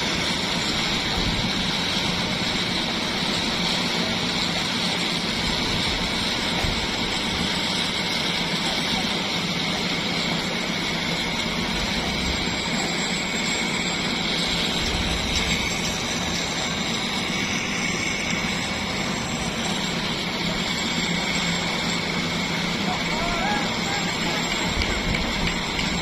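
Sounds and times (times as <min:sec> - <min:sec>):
engine running with whine: 0:00.0 - 0:26.0.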